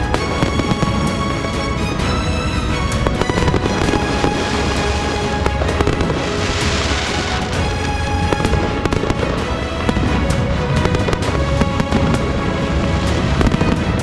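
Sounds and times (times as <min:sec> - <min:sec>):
fireworks bangs: 0:00.0 - 0:14.0
fireworks crackling hiss: 0:00.0 - 0:14.0
music: 0:00.0 - 0:14.0.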